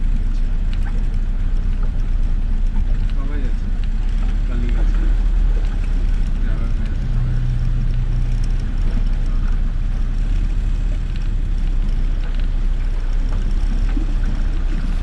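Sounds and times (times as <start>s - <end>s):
small splashes: 0.0s - 15.0s
steady low rumble: 0.0s - 15.0s
water sloshing and swishing: 0.0s - 15.0s.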